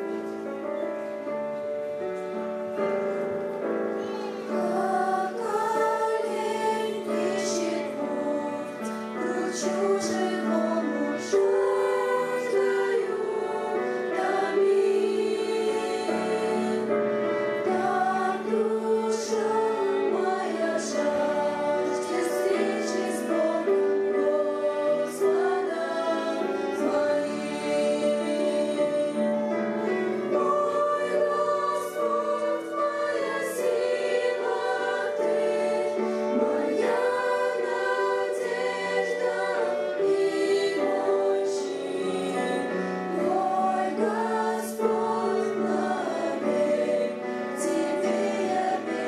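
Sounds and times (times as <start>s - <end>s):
instrumental accompaniment: 0.0s - 49.0s
girls singing a hymn: 2.4s - 49.0s.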